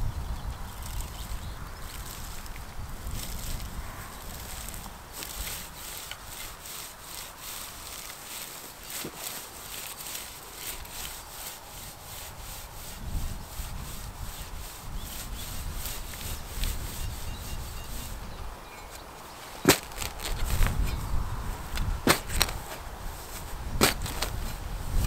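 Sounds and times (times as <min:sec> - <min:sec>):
short scraping strokes: 0:03.1 - 0:18.3, 0:18.9 - 0:25.0.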